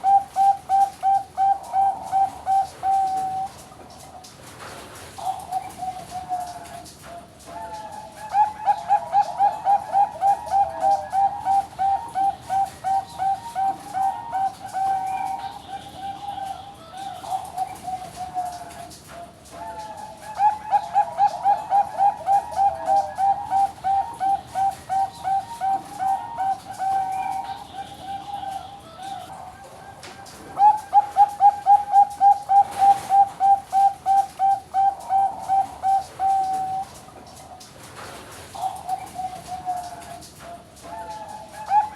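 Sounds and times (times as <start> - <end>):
zebra dove cooing: 0.0 - 3.6, 5.2 - 37.1, 38.6 - 41.9.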